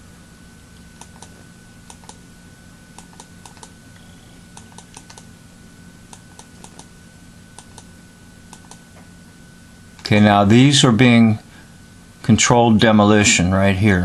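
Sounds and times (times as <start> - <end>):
faint high whine: 0.0 - 14.0
low electrical hum: 0.0 - 14.0.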